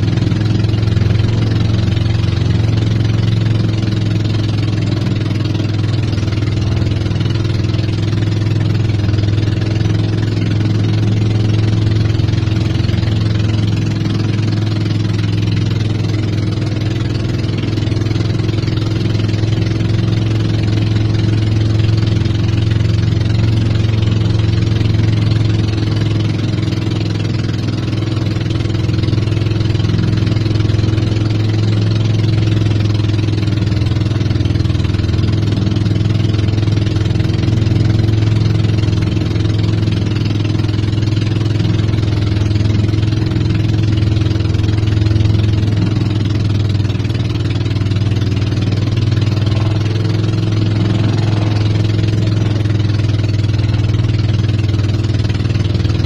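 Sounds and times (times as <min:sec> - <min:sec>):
boat engine humming: 0:00.0 - 0:56.0
water splashing along hull: 0:00.0 - 0:56.0.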